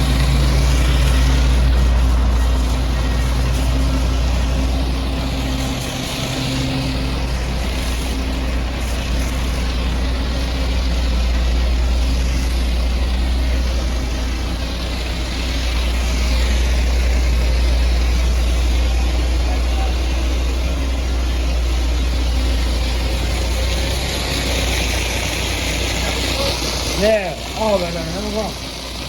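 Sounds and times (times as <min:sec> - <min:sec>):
high-pressure water spraying: 0:00.0 - 0:29.0
low motor hum: 0:00.0 - 0:29.0.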